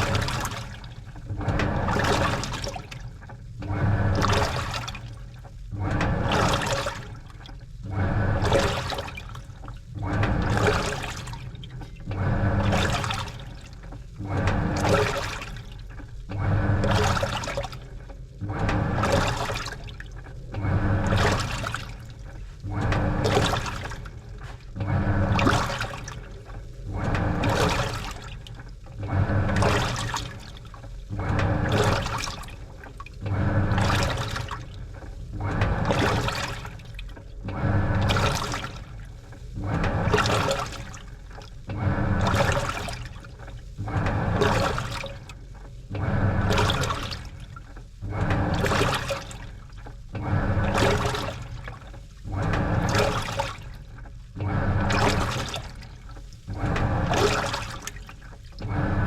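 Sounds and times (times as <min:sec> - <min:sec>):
washing machine motor humming: 0:00.0 - 0:59.0
water sloshing: 0:00.0 - 0:59.0.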